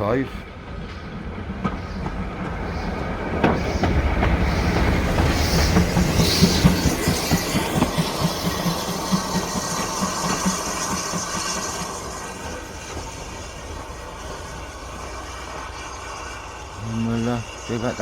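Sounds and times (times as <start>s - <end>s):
train wheels clicking over rail joints: 0.5s - 18.0s
steam hiss: 0.9s - 18.0s.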